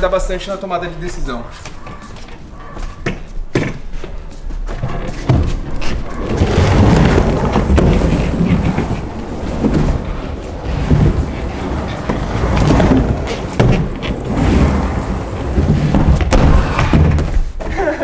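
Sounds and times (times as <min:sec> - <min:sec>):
skateboard wheels rolling on concrete: 0:00.0 - 0:18.0.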